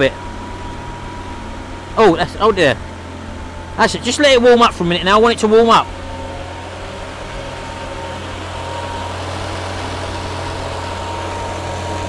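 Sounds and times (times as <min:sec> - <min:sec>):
car engine idling: 0:00.0 - 0:12.0
thin steady whine: 0:00.0 - 0:12.0.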